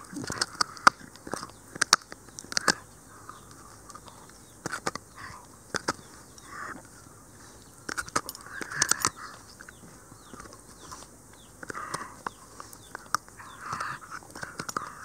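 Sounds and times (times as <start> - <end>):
dog gnawing a bone: 0.0 - 6.1, 7.8 - 15.0.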